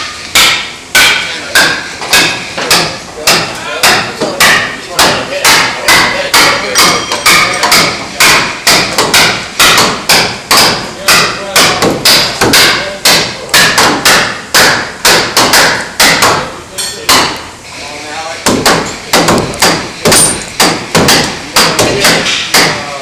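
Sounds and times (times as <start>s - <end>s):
ringing hammer blows: 0.0s - 17.4s, 18.4s - 22.9s.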